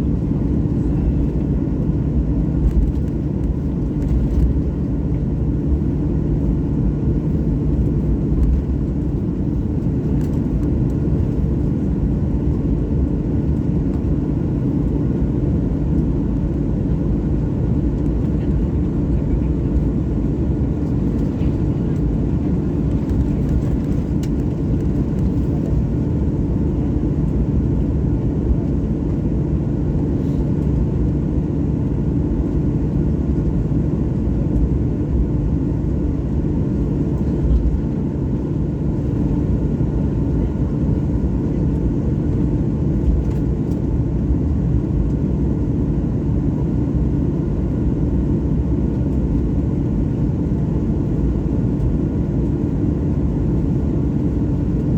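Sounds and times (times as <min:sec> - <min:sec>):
jet engine rumble with whine: 0:00.0 - 0:54.9.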